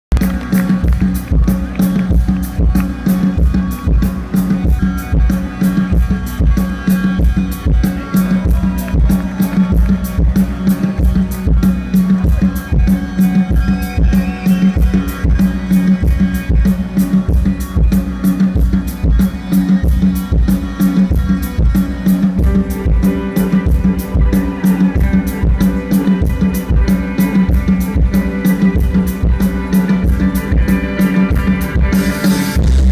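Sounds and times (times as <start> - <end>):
drum kit beat: 0.1 - 32.9
live rock band playing: 0.1 - 32.9.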